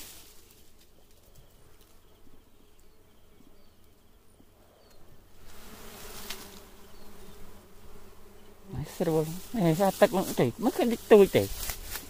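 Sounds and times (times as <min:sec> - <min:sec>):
bees buzzing: 0:01.4 - 0:12.0.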